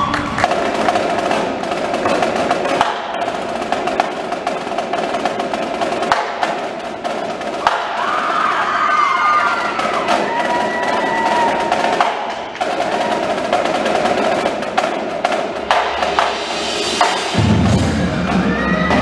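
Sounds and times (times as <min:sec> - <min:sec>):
drumline snare drum rolls: 0:00.0 - 0:19.0.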